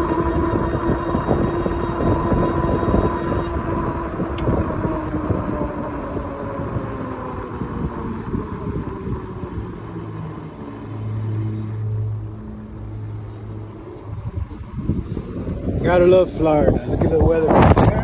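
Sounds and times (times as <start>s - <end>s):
steady low hum: 0.0s - 18.0s
vehicle motor whine: 0.0s - 18.0s
wind rumble on microphone: 0.0s - 18.0s.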